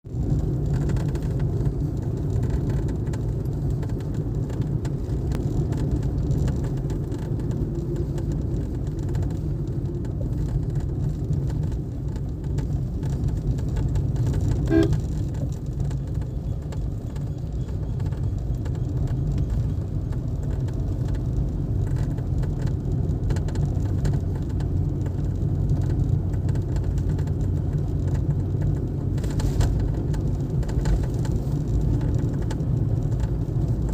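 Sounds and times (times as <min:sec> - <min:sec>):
car cabin low rumble: 0:00.1 - 0:33.9.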